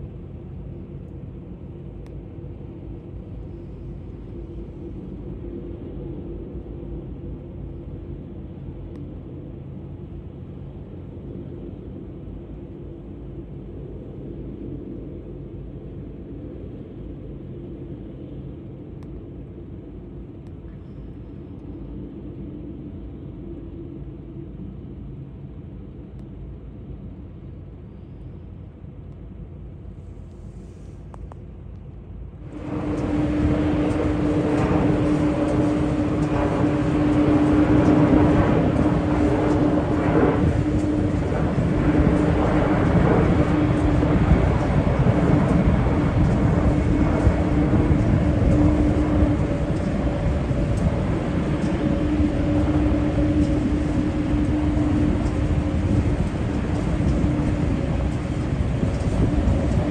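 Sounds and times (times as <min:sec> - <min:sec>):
jet engines running with hum: 0:00.0 - 0:59.9
jet engines taxiing rumble: 0:00.0 - 0:59.9.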